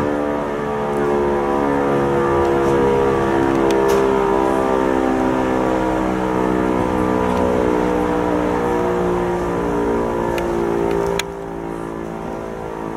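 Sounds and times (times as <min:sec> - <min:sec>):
siren steady many-pitched tone: 0:00.0 - 0:12.9.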